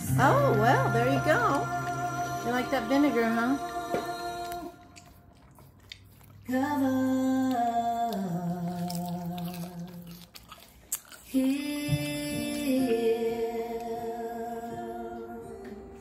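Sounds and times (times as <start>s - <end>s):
slow hummed notes music: 0.0s - 10.6s, 11.3s - 16.0s.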